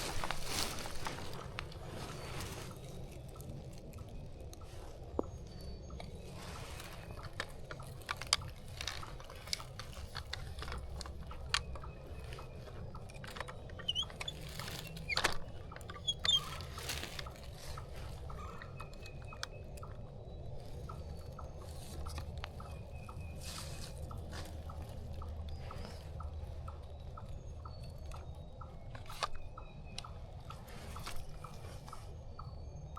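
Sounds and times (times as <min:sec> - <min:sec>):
light crunches and clicks: 0:00.0 - 0:32.6
bird chirps: 0:00.0 - 0:32.9.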